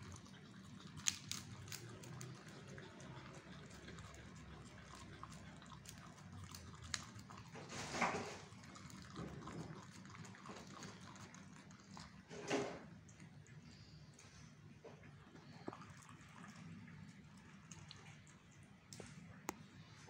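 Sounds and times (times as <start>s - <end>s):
dog chewing and lapping: 0.0s - 13.8s, 15.0s - 19.3s.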